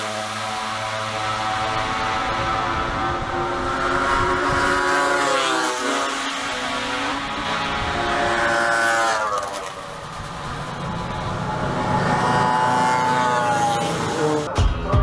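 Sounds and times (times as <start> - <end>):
racing motorcycles accelerating past: 0.0 - 14.6.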